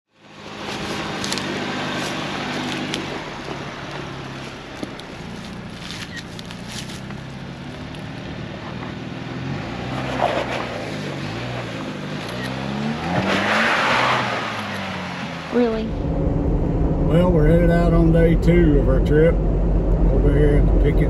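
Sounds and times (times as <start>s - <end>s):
engine running at low revs: 0.2s - 21.0s.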